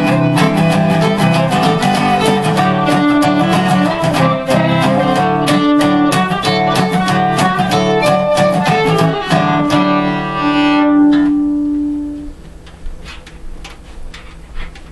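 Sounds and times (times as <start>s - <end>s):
bowed fiddle melody: 0.0s - 12.3s
acoustic guitar strumming: 0.0s - 12.4s.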